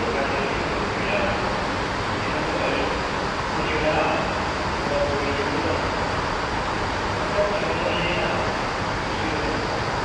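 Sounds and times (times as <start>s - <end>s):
city rumble and hiss: 0.0s - 10.0s.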